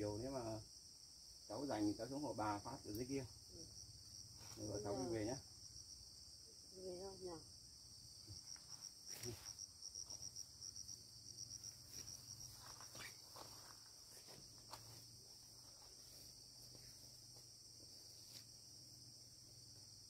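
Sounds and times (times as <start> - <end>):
insect chirping trill: 0.0 - 20.0.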